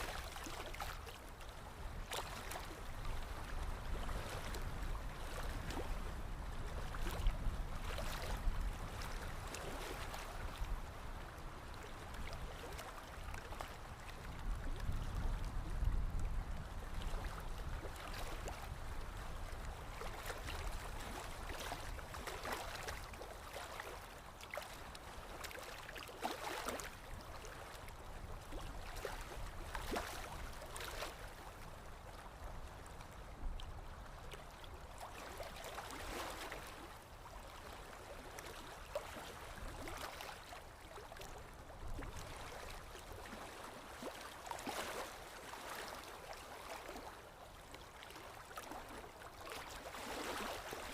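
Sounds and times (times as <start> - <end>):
stream flowing: 0.0 - 50.9.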